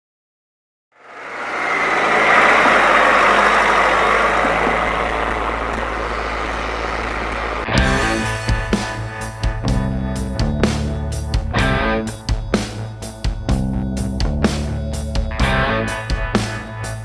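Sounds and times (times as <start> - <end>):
vehicle engine idling: 1.0 - 17.0.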